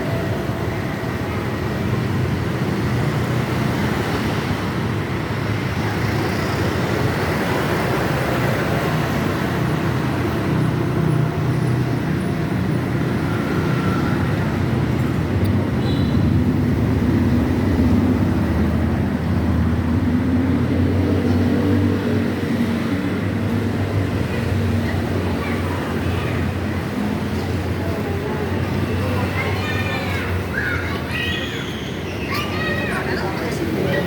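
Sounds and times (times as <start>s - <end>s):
road and traffic hiss: 0.0s - 34.0s.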